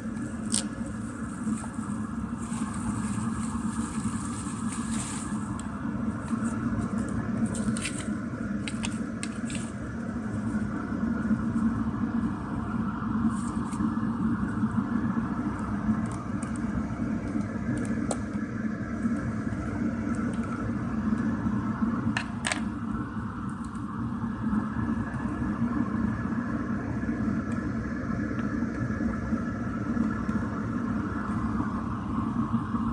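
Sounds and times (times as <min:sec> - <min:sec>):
low background hum: 0:00.0 - 0:32.9.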